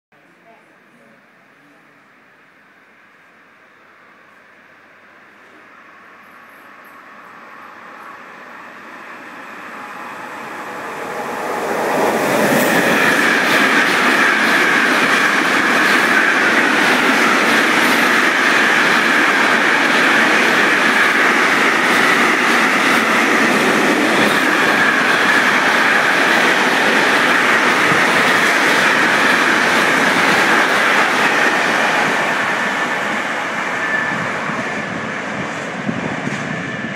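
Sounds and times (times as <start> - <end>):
freight train passing: 1.2 - 36.9.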